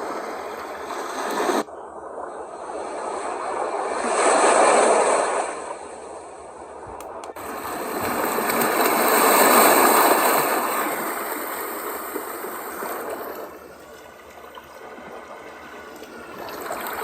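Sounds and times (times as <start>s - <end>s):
white noise machine water sound: 0.0s - 17.0s.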